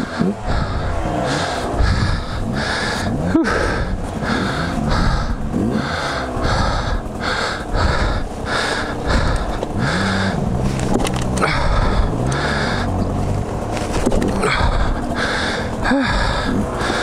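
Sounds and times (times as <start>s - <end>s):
dirt bike engine revving: 0.0s - 17.0s
rider panting: 0.0s - 17.0s.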